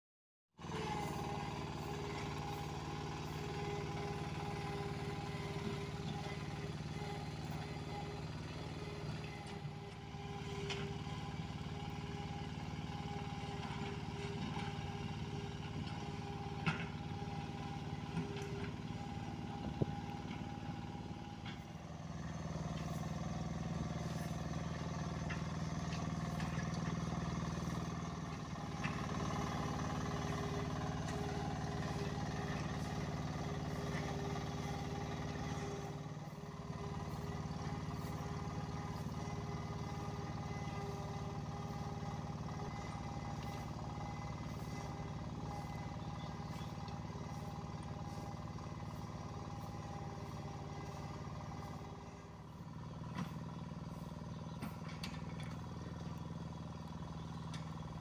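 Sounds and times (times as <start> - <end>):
road roller engine humming: 0.6 - 58.0.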